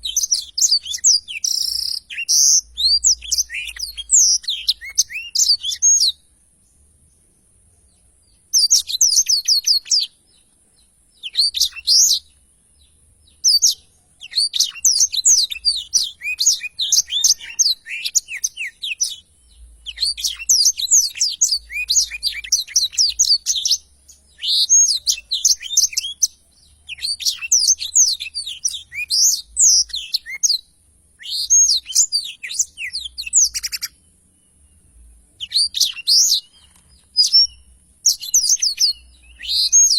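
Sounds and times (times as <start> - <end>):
canary singing: 0.0 - 6.3, 8.3 - 39.9
faint steady high hiss: 0.0 - 17.1, 17.8 - 39.9.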